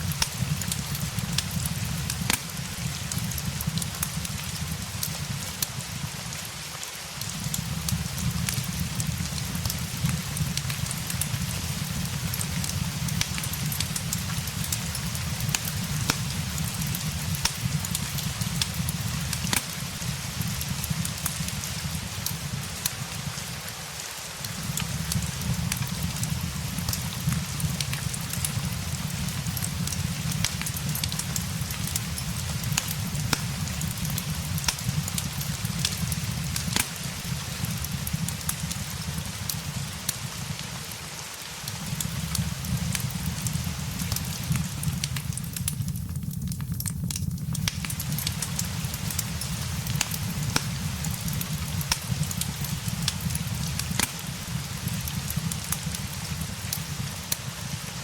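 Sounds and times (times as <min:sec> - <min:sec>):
fireplace crackling: 0:00.0 - 0:58.0
rain hiss: 0:00.0 - 0:58.0.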